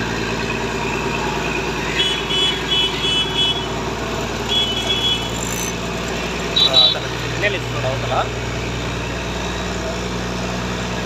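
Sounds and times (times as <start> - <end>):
heavy crane engines running: 0.0 - 11.0.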